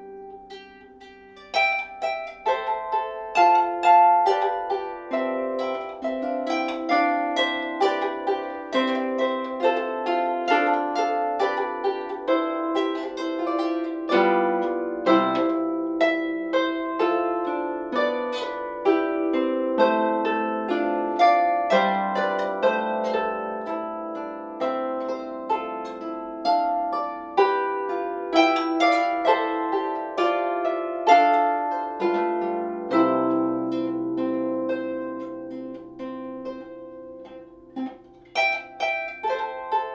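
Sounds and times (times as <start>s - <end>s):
harp plucked notes and chords: 0.0s - 39.9s.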